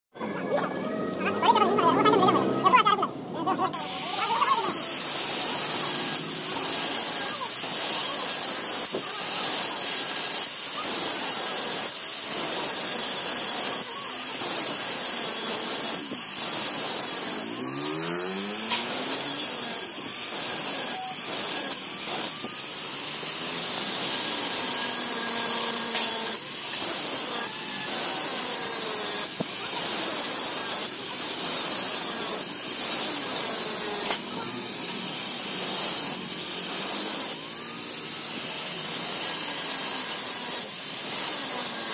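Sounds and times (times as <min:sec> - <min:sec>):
angle grinder cutting steel: 0:00.4 - 0:41.9.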